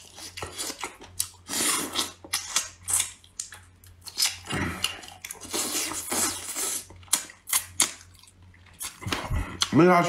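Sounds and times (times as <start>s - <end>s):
close chewing and wet smacks: 0.0s - 9.8s.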